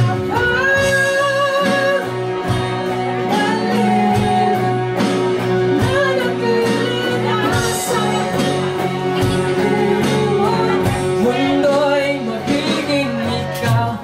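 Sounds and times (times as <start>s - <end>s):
drums and cymbals: 0.0s - 14.0s
electric guitars: 0.0s - 14.0s.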